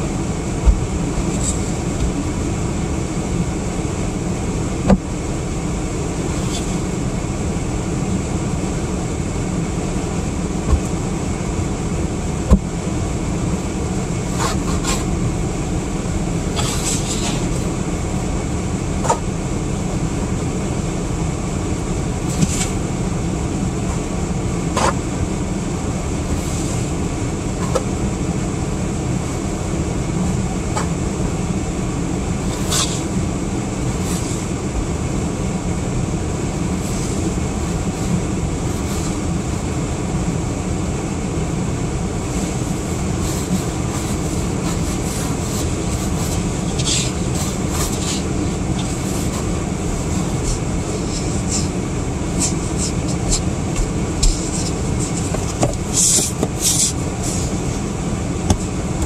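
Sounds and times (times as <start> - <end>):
car engine rumble inside cabin: 0.0 - 59.0.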